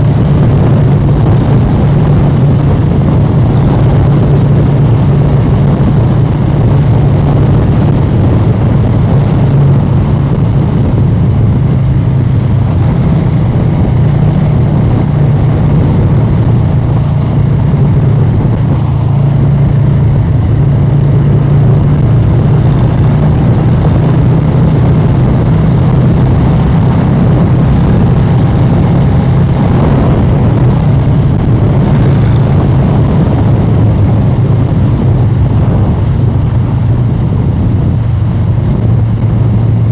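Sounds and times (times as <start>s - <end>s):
loud motorcycle engine cruising: 0.0s - 39.9s.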